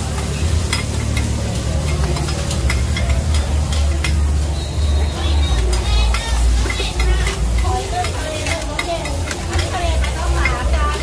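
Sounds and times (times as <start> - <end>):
metal spatulas scraping a pan: 0.0 - 11.0
omelettes sizzling on a griddle: 0.0 - 11.0.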